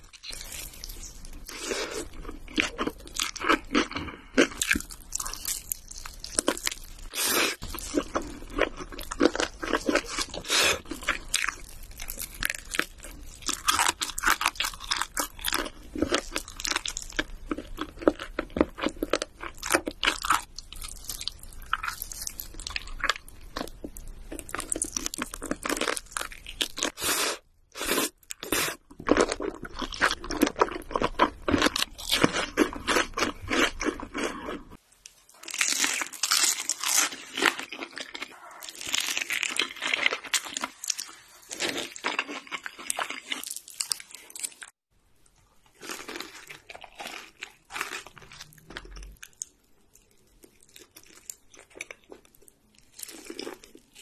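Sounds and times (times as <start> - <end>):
crunching and chewing crisp food: 0.0 - 54.0.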